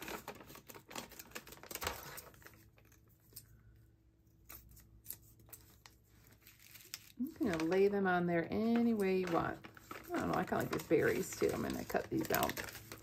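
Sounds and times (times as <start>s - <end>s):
plastic film crinkling: 0.0s - 3.6s, 4.4s - 13.0s.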